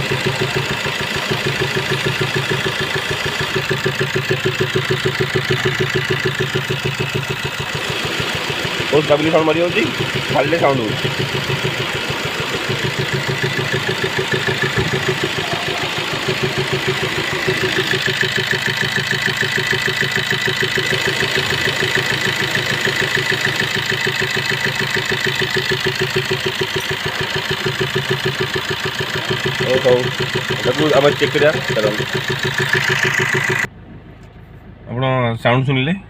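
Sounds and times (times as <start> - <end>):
diesel engine idling rhythmically: 0.0 - 33.7.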